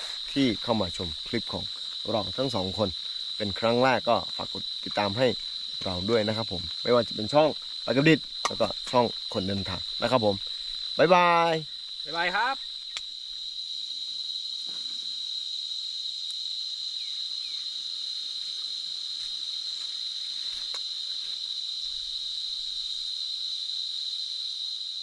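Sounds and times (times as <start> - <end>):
faint forest ambience hiss: 0.0 - 25.0
insects droning: 0.0 - 25.0.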